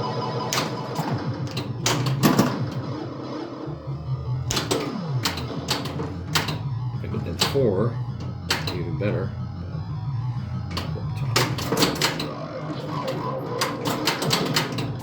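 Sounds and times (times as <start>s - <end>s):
pinball machine mechanical clacks: 0.0s - 3.6s, 4.4s - 9.1s, 10.2s - 15.0s
electronic game sound effects: 0.0s - 15.0s.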